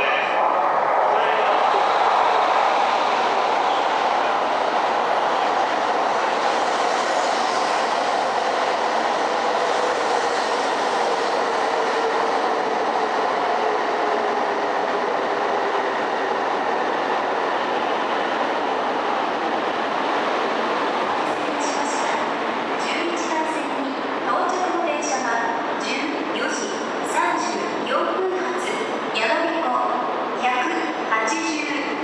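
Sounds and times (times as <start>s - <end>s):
train running noise: 0.0s - 29.5s.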